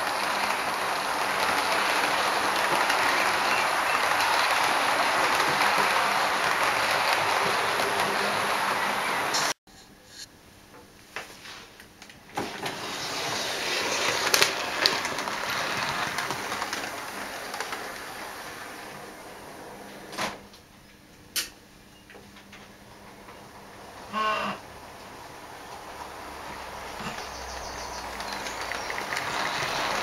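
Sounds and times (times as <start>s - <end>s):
model train rumbling: 0.0s - 9.6s, 12.4s - 20.2s, 23.2s - 30.0s.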